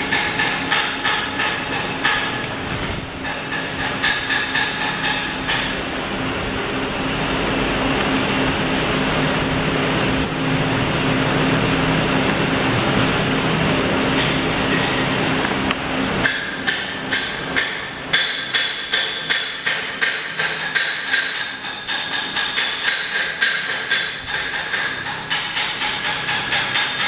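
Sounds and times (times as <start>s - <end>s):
arc welding crackling hiss: 0.0s - 27.0s.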